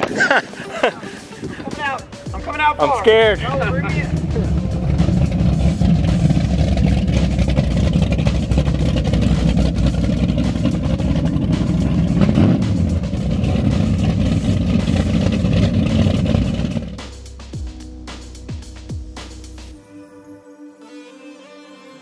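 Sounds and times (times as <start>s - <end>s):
boat engines exhaust rumble: 0.0s - 18.0s.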